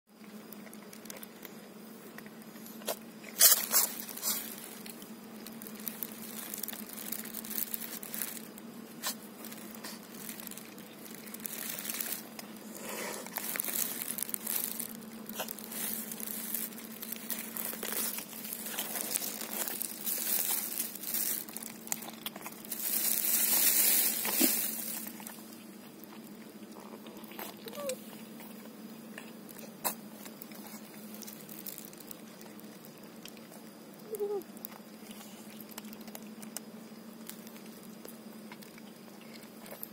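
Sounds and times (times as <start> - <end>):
steady low hum: 0.1 - 39.9
person eating crunchy food: 0.2 - 39.9.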